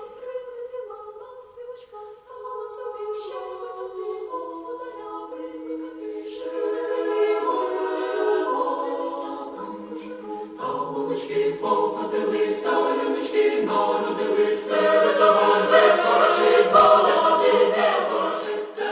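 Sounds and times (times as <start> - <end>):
choir singing a cappella: 0.0 - 18.9.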